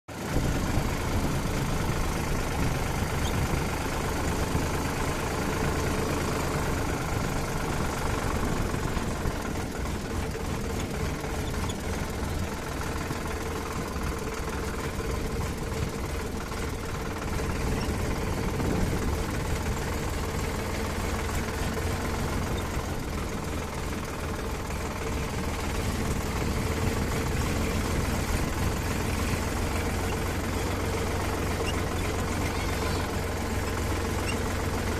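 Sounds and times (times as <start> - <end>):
heavy vehicle engine running: 0.1 - 34.9.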